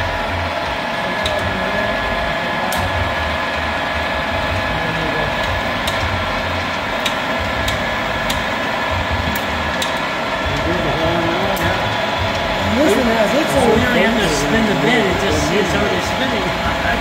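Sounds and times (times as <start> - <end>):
lathe running with faint whine: 0.0 - 17.0.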